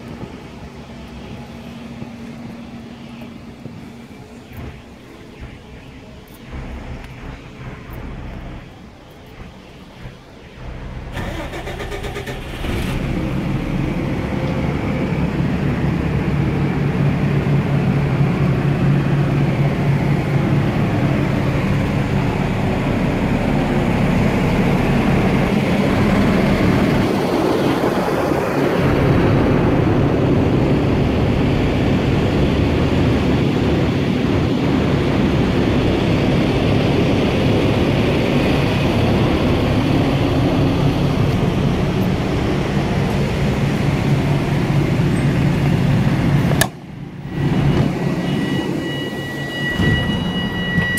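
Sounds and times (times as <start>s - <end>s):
diesel bus engine idling: 0.0s - 50.9s.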